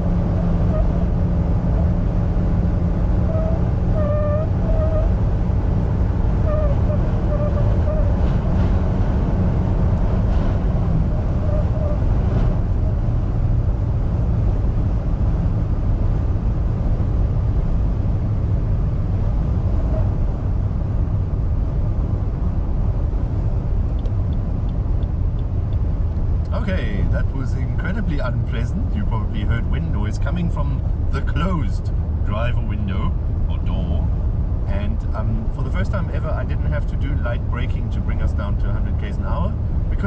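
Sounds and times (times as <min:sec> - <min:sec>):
wind and road noise rumble: 0:00.0 - 0:40.0.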